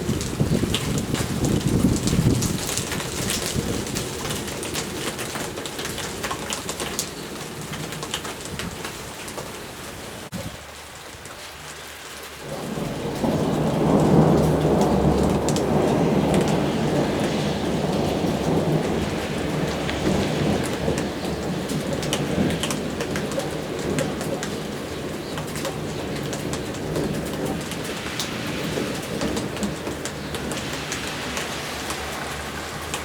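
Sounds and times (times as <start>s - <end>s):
thunder rumbling: 0.0s - 8.8s, 12.4s - 33.0s
rain pattering: 0.0s - 33.0s.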